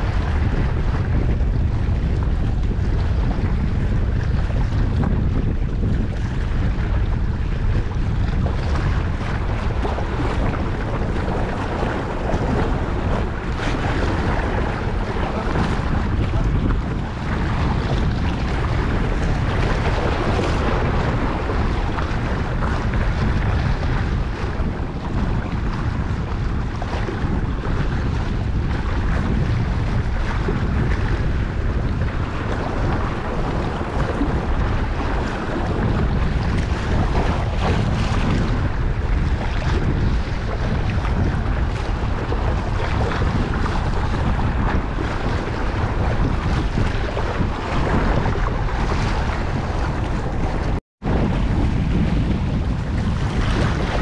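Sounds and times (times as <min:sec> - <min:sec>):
water lapping and splashing: 0:00.0 - 0:54.0
wind buffeting microphone: 0:00.0 - 0:54.0.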